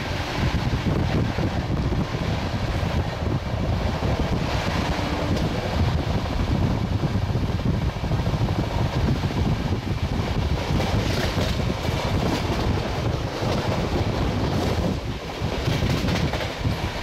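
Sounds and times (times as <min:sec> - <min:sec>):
train rumbling on rails: 0:00.0 - 0:17.0
wind rushing against microphone: 0:00.0 - 0:17.0.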